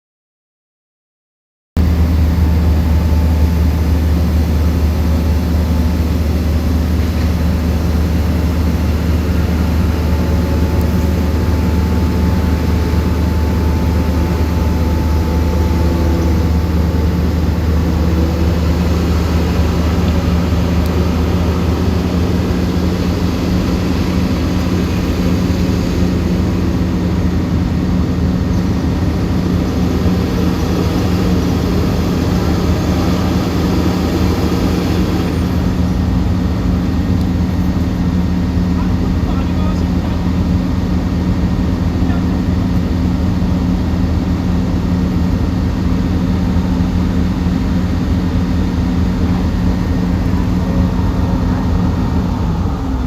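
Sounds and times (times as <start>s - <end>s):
bulldozer diesel engine running: 1.8s - 53.0s.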